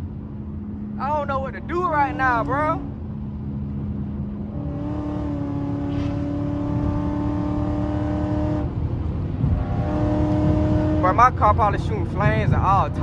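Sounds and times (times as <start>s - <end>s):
car engine at speed: 0.0s - 13.0s
road rumble: 0.0s - 13.0s.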